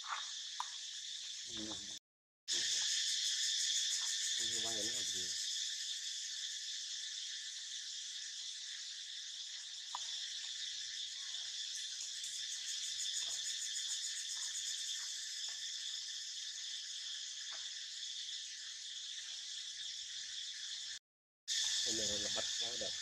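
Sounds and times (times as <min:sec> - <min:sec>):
insects droning chorus: 0:00.0 - 0:23.0
rapid pulsing insect call: 0:00.0 - 0:23.0.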